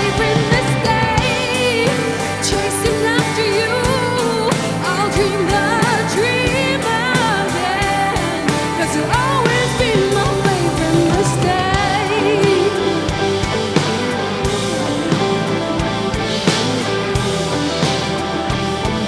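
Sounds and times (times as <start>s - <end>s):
drums beating: 0.0s - 19.0s
melodic lead line: 0.0s - 19.0s.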